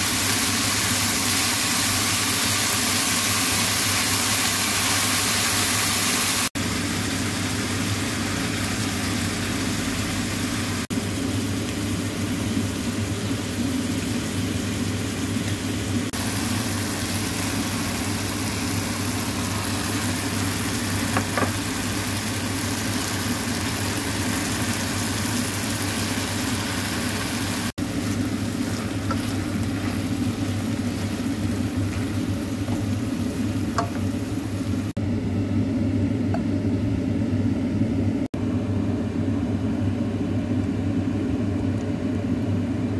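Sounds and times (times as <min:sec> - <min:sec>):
vegetables sizzling in a pan: 0:00.0 - 0:35.0.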